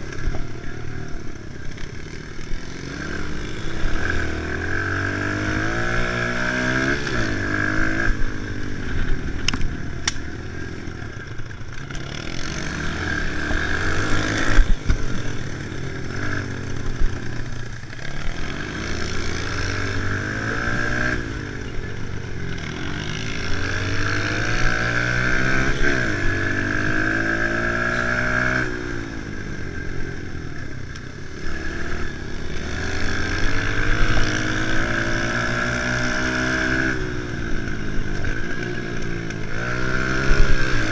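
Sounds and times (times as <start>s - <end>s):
small motorcycle engine revving: 0.0s - 40.9s.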